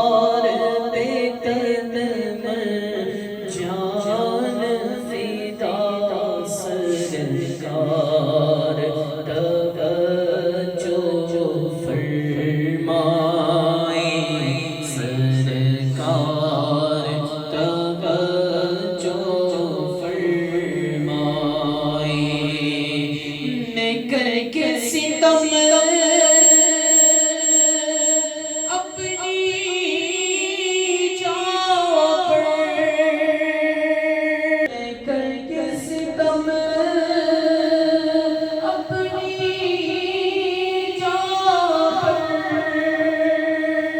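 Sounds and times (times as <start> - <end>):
person singing devotional song: 0.0 - 43.9.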